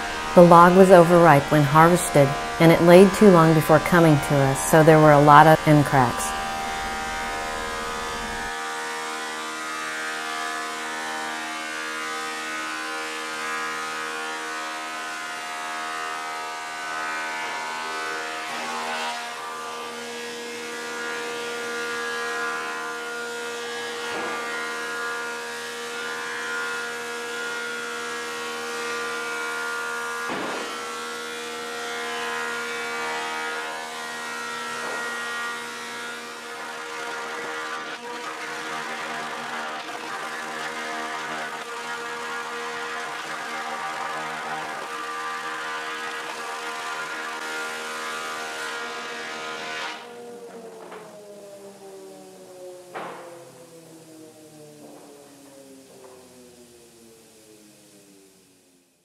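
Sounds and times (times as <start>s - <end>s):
wood planer whining: 0.0s - 58.0s.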